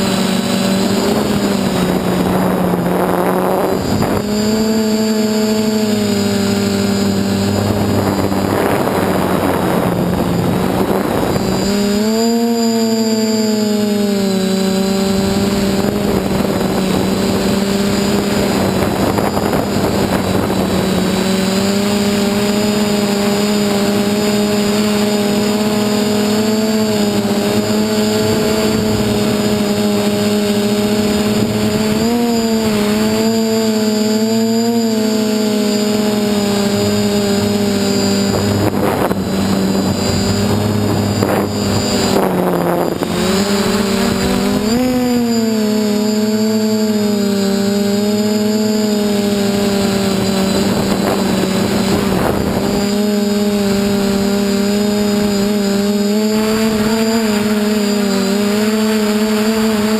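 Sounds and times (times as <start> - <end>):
drone motors buzzing: 0.0 - 59.9.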